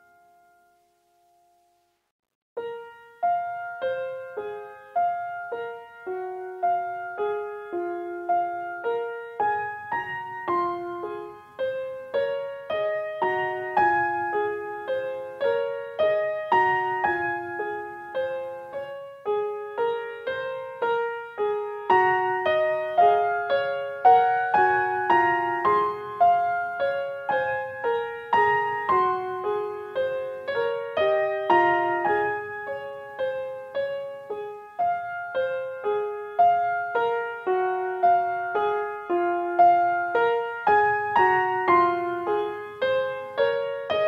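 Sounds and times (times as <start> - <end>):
slow piano music: 0.0 - 2.0, 2.6 - 44.0.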